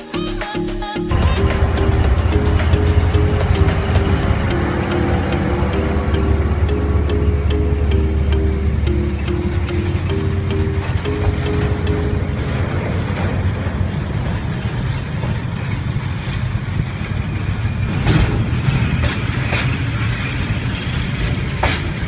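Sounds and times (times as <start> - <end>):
wheels clicking over rail joints: 1.1 - 22.0.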